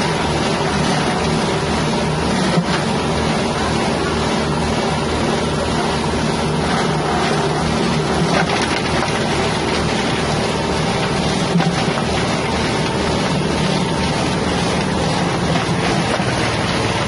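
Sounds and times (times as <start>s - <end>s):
grinding machine engine running: 0.0s - 17.0s.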